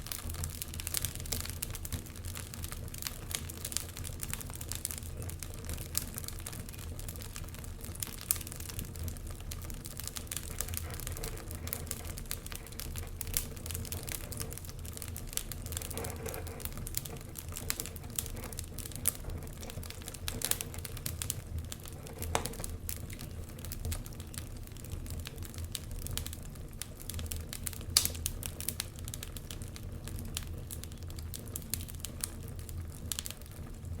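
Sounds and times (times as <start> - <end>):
fireplace fire crackling: 0.0 - 34.0.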